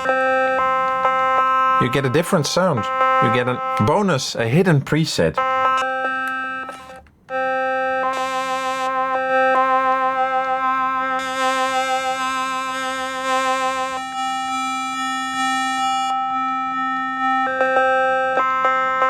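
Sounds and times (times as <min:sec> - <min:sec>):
mini keyboard playing chords: 0:00.0 - 0:19.0.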